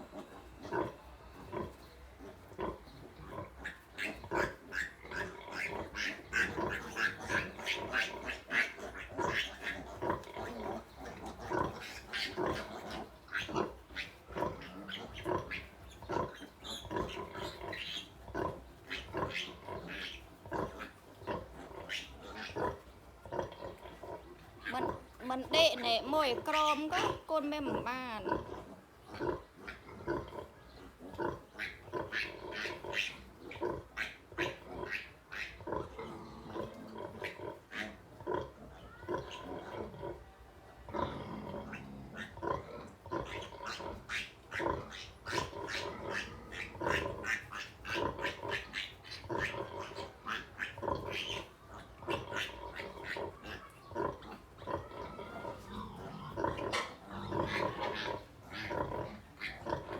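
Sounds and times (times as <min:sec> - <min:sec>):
pigs grunting and squealing: 0:00.0 - 0:59.9.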